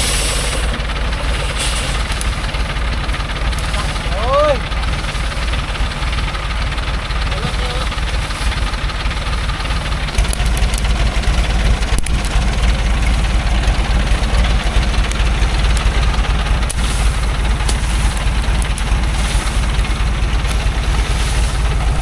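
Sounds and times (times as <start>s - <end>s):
truck engine deep pulsing rumble: 0.0s - 22.0s.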